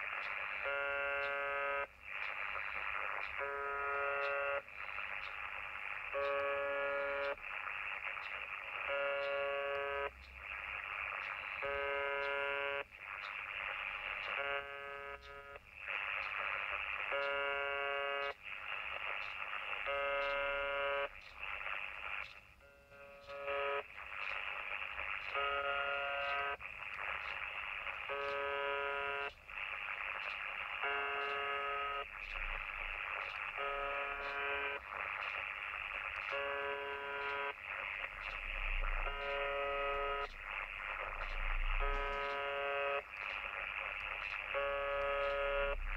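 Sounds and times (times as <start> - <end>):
harsh radio buzz: 0.0 - 45.9
shortwave static: 0.0 - 45.9.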